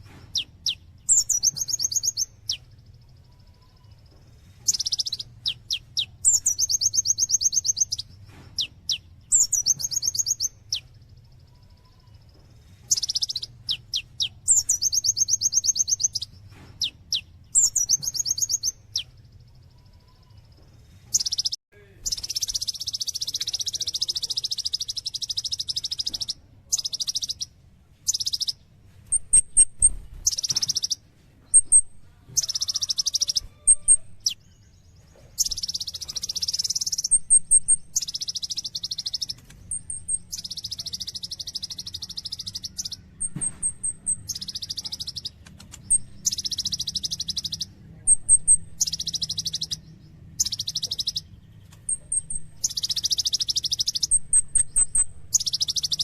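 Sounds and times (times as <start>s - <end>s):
bird singing rapid trills: 0.0s - 56.0s.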